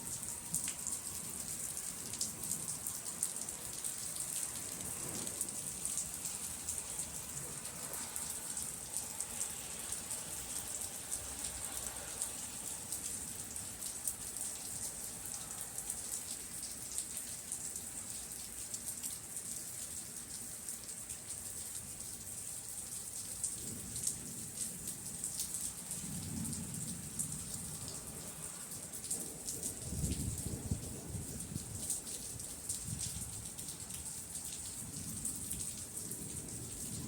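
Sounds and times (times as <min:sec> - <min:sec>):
raindrops ticking on hard surface: 0:00.0 - 0:37.0
steady rain: 0:00.0 - 0:37.0.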